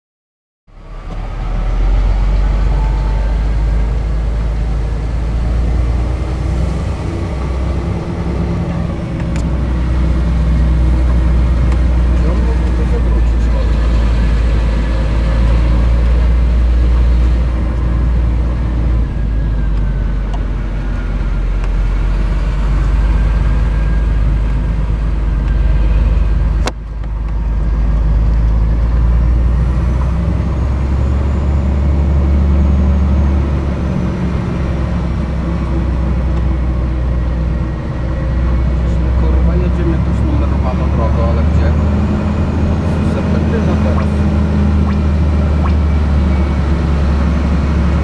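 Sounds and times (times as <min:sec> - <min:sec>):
truck diesel engine droning: 0:00.7 - 0:48.0.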